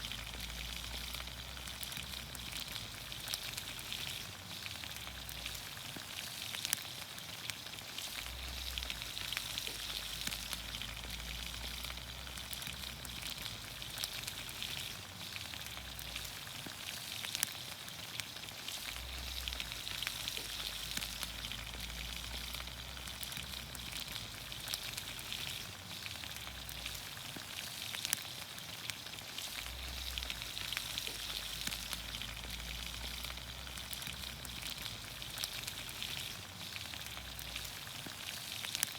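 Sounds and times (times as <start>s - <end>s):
small pops and crackles: 0.0s - 38.9s
vegetables sizzling in oil: 0.0s - 38.9s.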